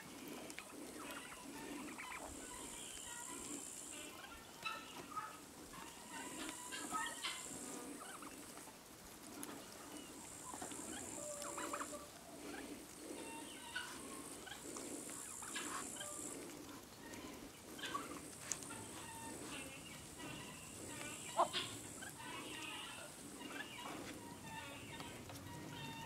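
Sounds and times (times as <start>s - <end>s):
ducklings peeping: 0.0s - 8.5s, 9.4s - 26.0s
ducklings pecking: 0.0s - 26.0s.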